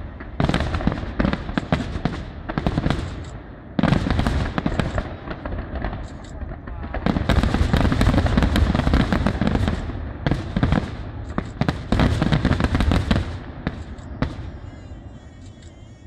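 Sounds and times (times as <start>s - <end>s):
fireworks crackling: 0.0s - 15.4s
firework shells bursting: 0.0s - 15.9s.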